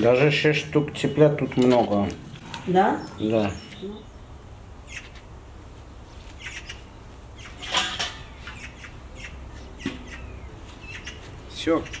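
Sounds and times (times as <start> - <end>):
small birds chirping: 0.7 - 12.0.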